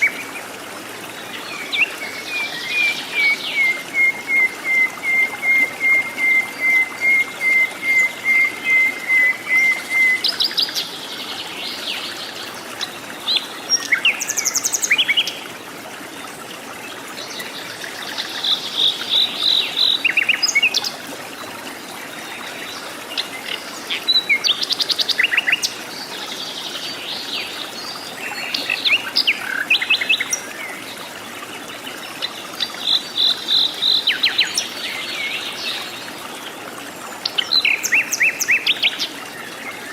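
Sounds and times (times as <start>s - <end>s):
faint forest background hiss: 0.0s - 39.9s.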